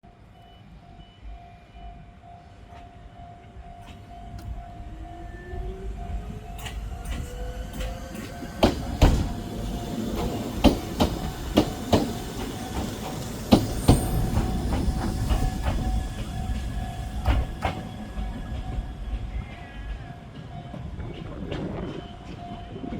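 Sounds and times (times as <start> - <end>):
electric train whine: 0.1 - 22.9
level-crossing bell dinging: 0.9 - 22.9
train wheels clacking on rail joints: 3.8 - 22.9.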